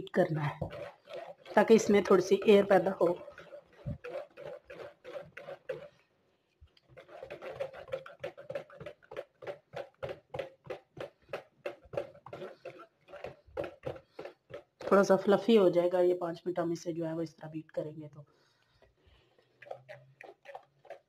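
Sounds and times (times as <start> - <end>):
whisk beating batter in plastic bowl: 0.0 - 6.1, 6.7 - 16.1, 18.7 - 21.0.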